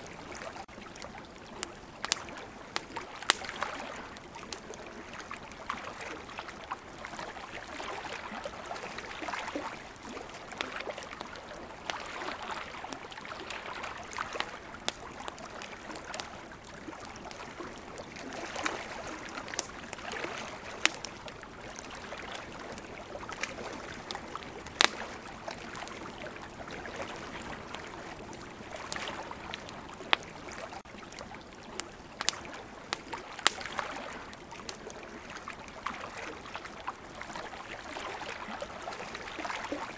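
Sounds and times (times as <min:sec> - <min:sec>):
campfire crackling and popping: 0:00.0 - 0:39.9
ocean waves: 0:02.0 - 0:30.8, 0:33.4 - 0:39.9.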